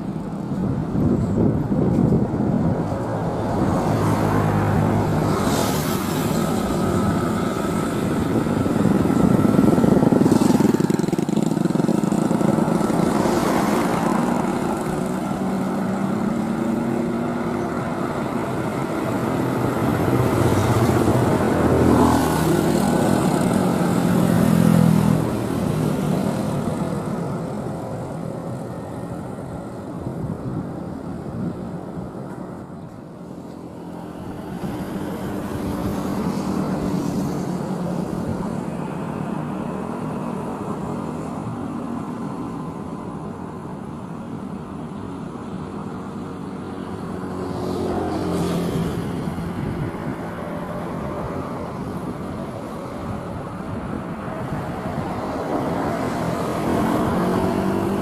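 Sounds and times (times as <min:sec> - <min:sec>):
jet engines rumbling at takeoff: 0:00.0 - 0:58.0.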